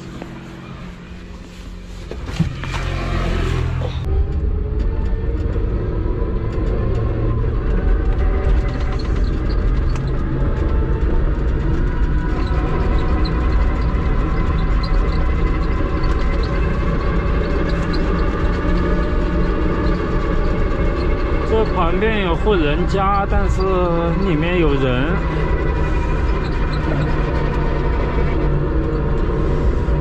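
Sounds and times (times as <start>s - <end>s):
low rumble of tyres on road: 0.0s - 30.0s.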